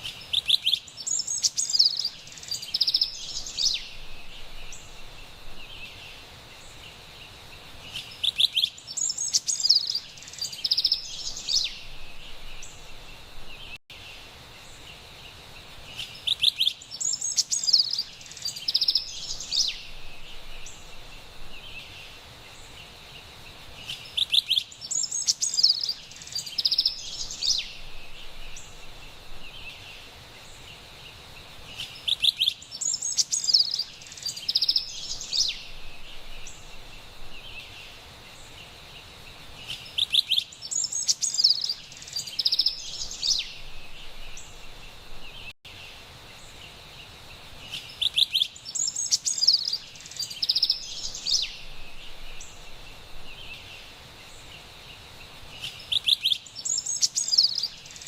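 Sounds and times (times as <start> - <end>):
wren singing: 0.0 - 6.9, 7.8 - 13.8, 15.9 - 30.7, 31.6 - 45.8, 47.6 - 58.0
faint background hiss: 0.0 - 58.0.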